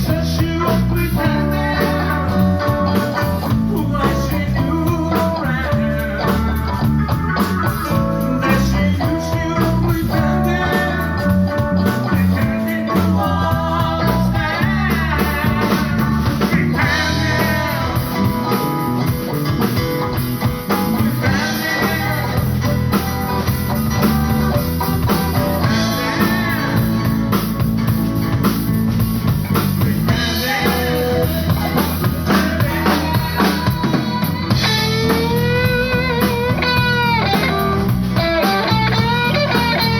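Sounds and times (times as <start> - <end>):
drum kit: 0.0 - 39.9
electric guitar: 0.0 - 39.9
live blues band playing: 0.0 - 39.9.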